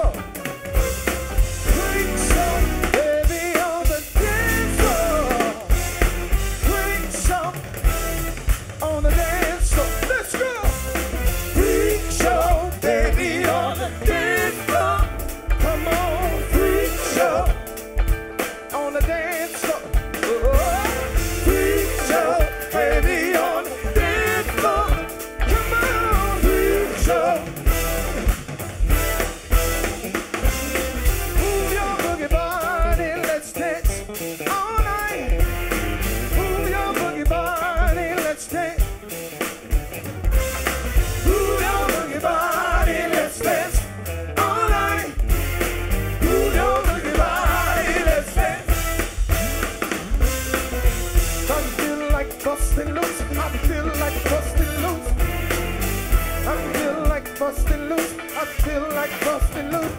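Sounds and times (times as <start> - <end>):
up-tempo song with singing: 0.0 - 59.9.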